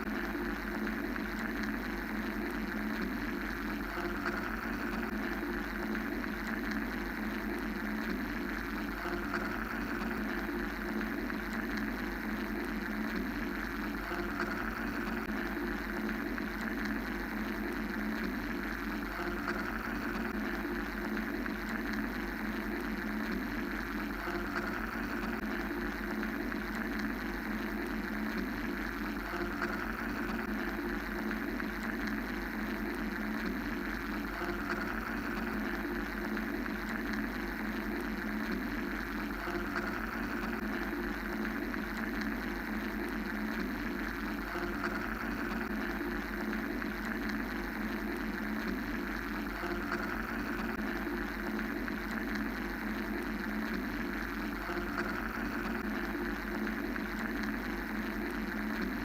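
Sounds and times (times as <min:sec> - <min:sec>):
mechanical white-noise drone: 0:00.0 - 0:59.0.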